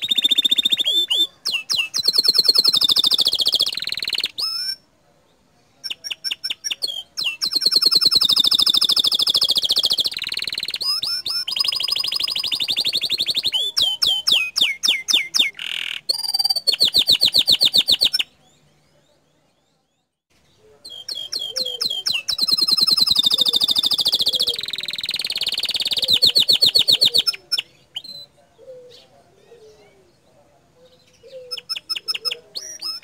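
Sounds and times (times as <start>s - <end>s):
canary singing trills: 0.0s - 33.0s.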